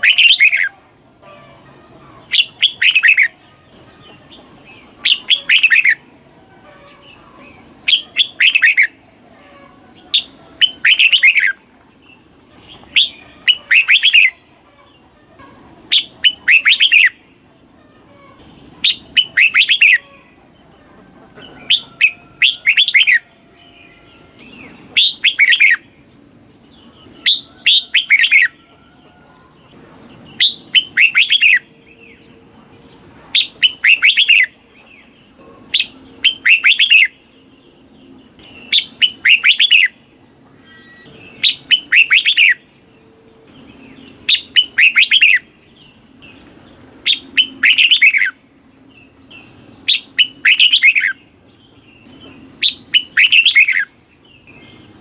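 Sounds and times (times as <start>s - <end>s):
bird singing descending notes: 0.0s - 55.0s.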